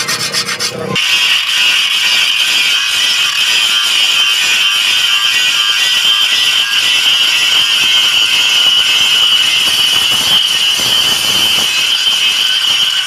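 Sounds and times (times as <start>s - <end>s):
angle grinder grinding steel: 0.0s - 13.0s.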